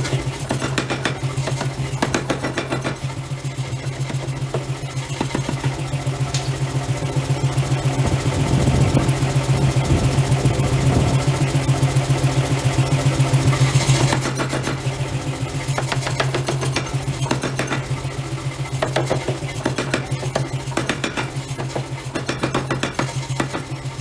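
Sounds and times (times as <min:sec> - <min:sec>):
forging machinery humming: 0:00.0 - 0:24.0.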